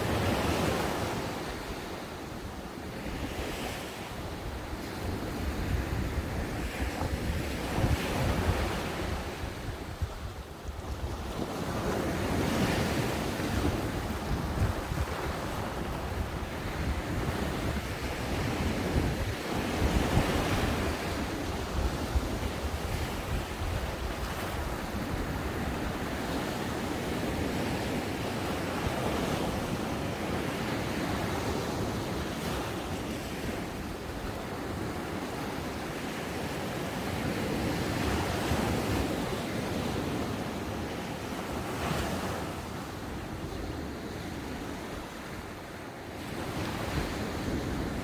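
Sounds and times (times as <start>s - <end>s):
ocean waves breaking on beach: 0.0s - 48.0s
wind on microphone: 0.0s - 48.0s.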